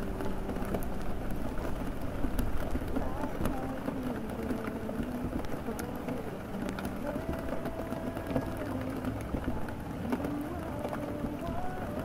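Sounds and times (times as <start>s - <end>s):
faint crackles: 0.0s - 12.0s
low city rumble: 0.0s - 12.0s
muffled song with vocals: 0.0s - 12.0s
steady rain: 0.0s - 12.0s.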